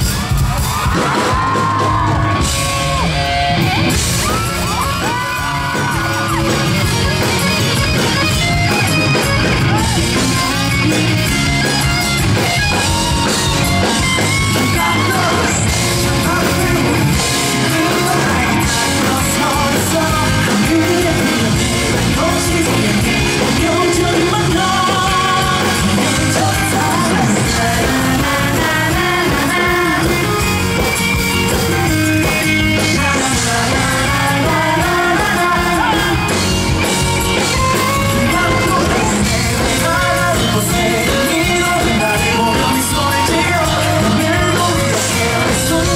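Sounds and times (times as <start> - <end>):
drum kit beat: 0.0 - 45.9
electric guitar: 0.0 - 45.9
person singing: 4.2 - 31.5, 32.2 - 45.9.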